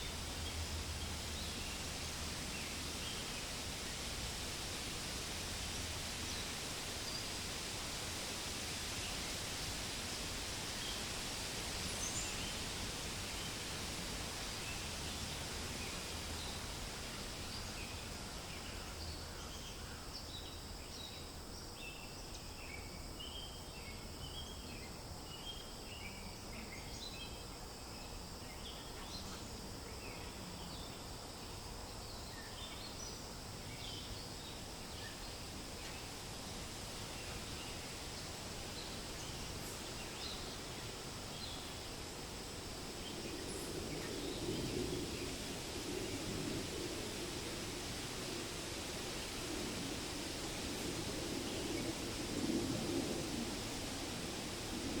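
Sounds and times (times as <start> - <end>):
wind rustling through leaves: 0.0 - 55.0.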